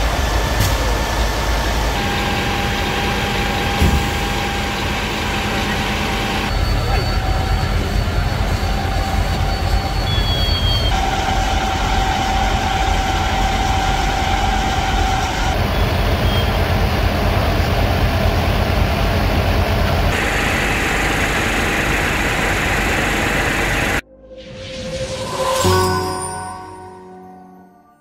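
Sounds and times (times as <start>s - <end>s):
fire truck engine and pump rumbling: 0.0s - 24.0s.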